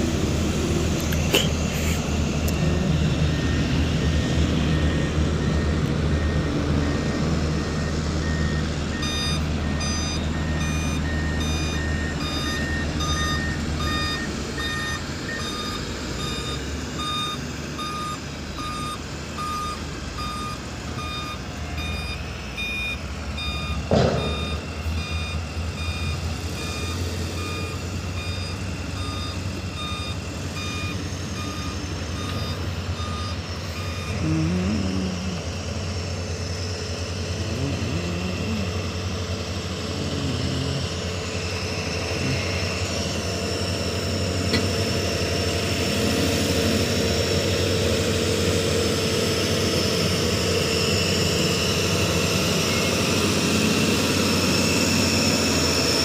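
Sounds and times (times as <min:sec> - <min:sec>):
diesel engine running: 0:00.0 - 0:56.0
truck reversing alarm beeping: 0:00.0 - 0:56.0.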